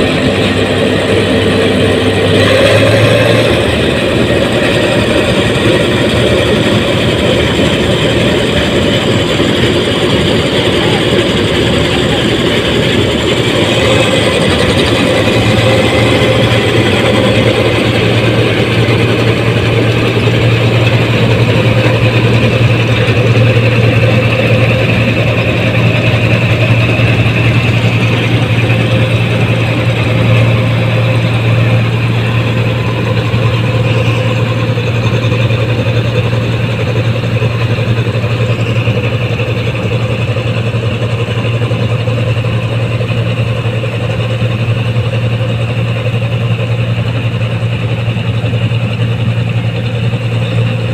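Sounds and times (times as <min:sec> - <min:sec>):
combine harvester engine and threshing: 0:00.0 - 0:50.9.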